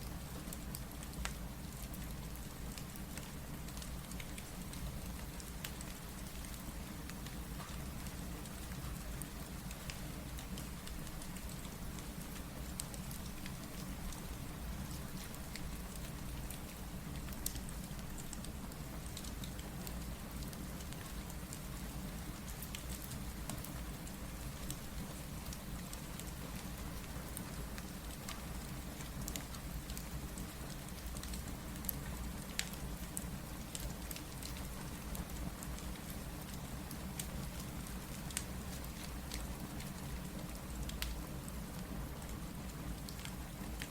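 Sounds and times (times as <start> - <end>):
steady rain: 0.0 - 43.9
wood fire crackling and popping: 0.4 - 43.9.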